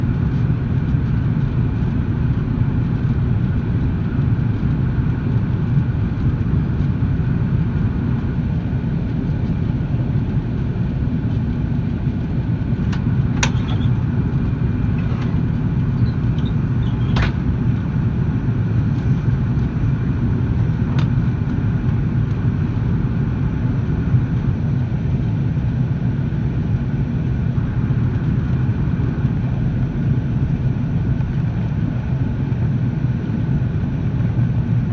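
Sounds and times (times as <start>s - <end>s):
jet engine and airflow rumble: 0.0s - 34.9s.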